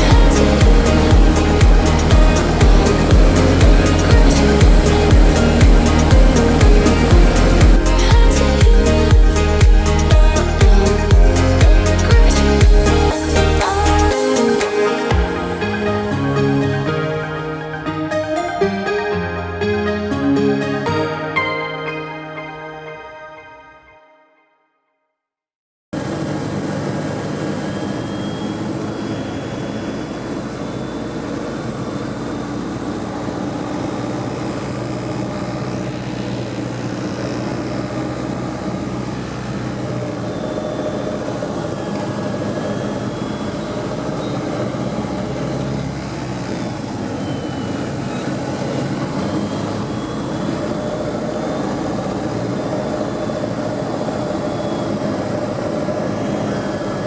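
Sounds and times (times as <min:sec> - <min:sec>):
light aircraft engine drone: 0:00.0 - 0:16.9, 0:26.0 - 0:57.0.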